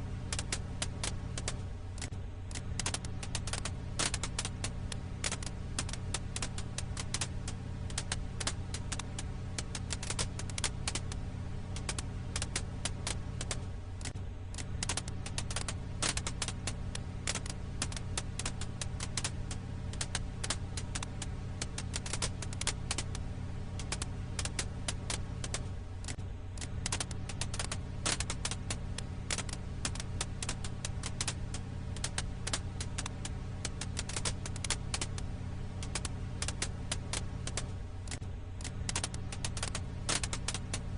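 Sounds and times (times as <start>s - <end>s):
campfire crackling: 0.0s - 40.9s
steady low hum: 0.0s - 40.9s.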